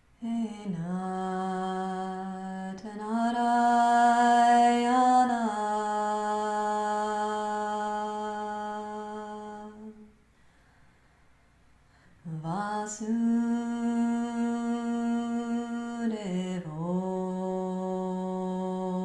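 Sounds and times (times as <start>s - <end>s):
woman chanting: 0.2s - 10.2s, 12.2s - 19.0s.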